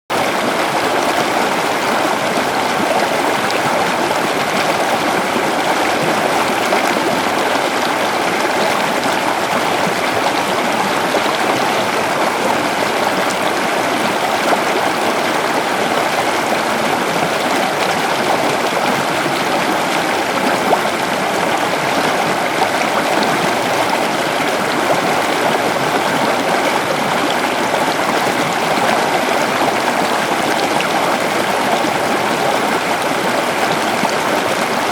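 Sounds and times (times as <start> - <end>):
waterfall roaring: 0.1 - 34.9.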